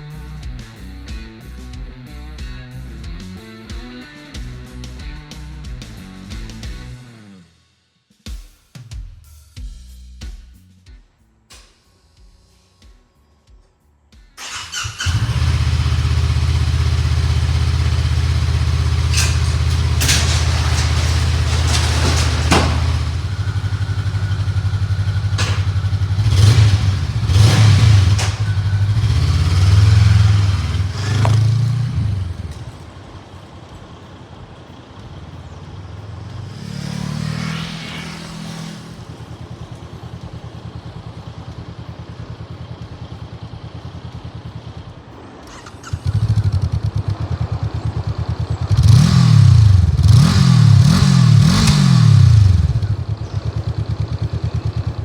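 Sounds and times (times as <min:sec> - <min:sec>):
motorcycle engine idling and revving: 0:00.0 - 0:07.6, 0:14.4 - 0:55.0.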